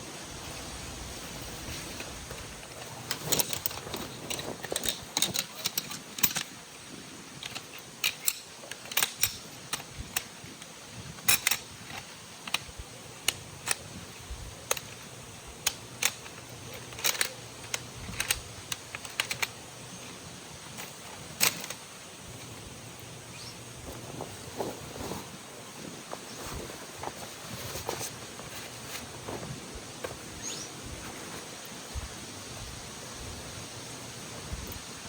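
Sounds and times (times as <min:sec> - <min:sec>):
faint steady background noise: 0:00.0 - 0:35.0.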